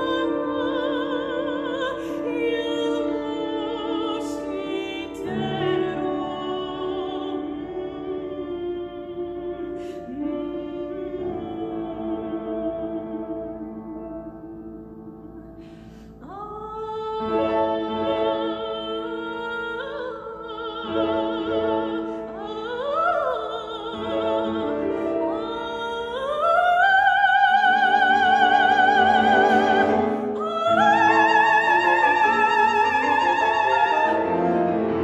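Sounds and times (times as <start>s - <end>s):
grand piano accompaniment: 0.0s - 35.0s
soprano singing: 0.0s - 35.0s.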